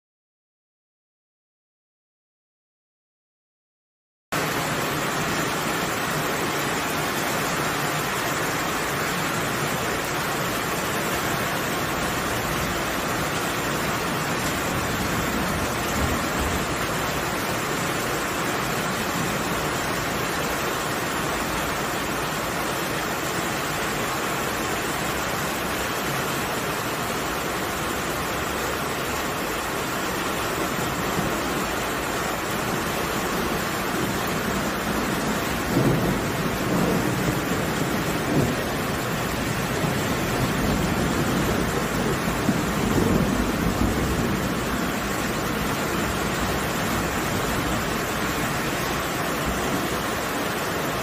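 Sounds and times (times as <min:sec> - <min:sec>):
heavy rain falling: 0:04.3 - 0:51.0.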